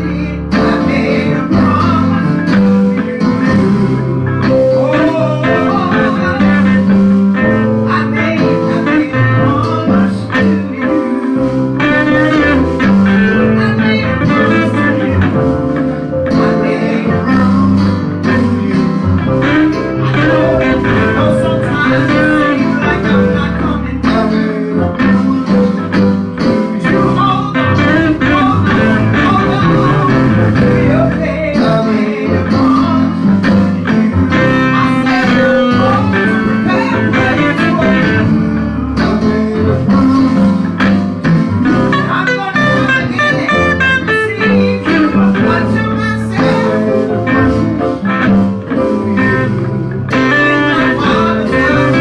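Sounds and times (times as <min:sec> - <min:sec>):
church band music: 0:00.0 - 0:52.0.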